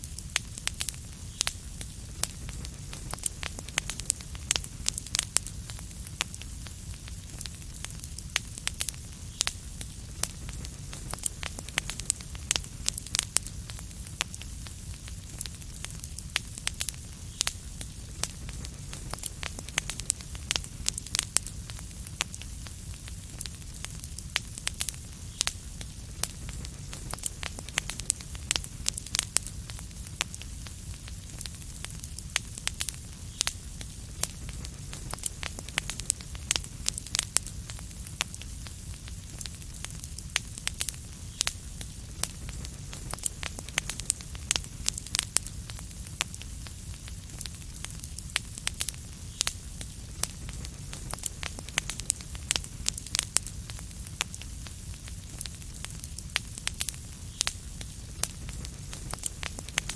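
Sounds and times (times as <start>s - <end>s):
fire crackling and popping: 0.0s - 59.9s
low rumble of burning: 0.0s - 59.9s.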